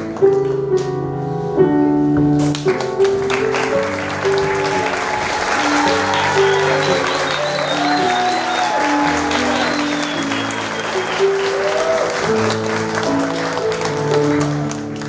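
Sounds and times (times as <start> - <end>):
recorded music with piano: 0.0 - 15.0
audience applauding: 2.5 - 15.0.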